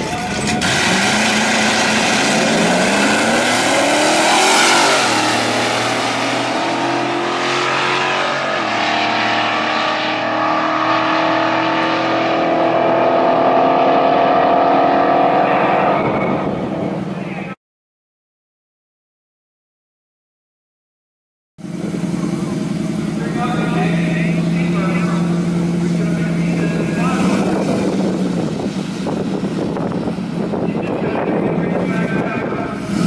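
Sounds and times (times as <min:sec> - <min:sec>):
truck engine accelerating hard: 0:00.0 - 0:17.5, 0:21.6 - 0:33.0.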